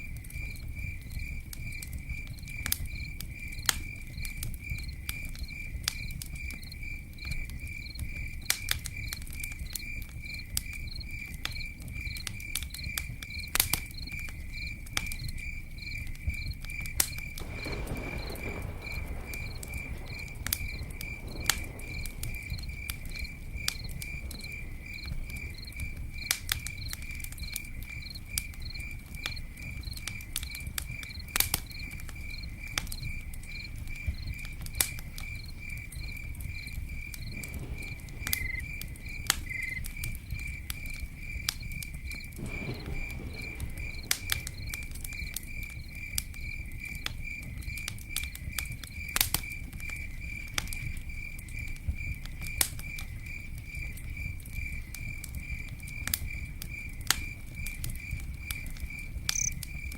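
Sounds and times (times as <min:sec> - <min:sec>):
campfire crackling and popping: 0:00.0 - 0:59.9
cricket chirping: 0:00.0 - 0:59.9.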